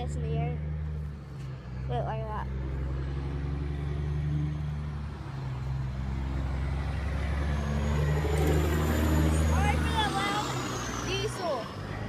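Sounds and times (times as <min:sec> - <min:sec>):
heavy trucks passing: 0:00.0 - 0:12.0.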